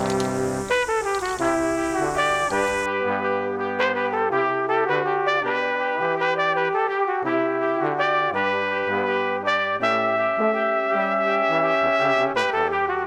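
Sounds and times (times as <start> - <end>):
brass-led background music: 0.0 - 13.0.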